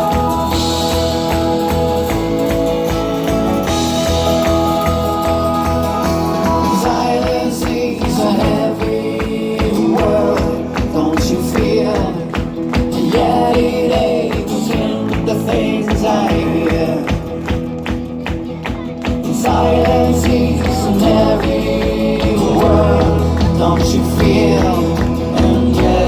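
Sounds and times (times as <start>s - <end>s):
show music with percussion beat: 0.0s - 26.0s.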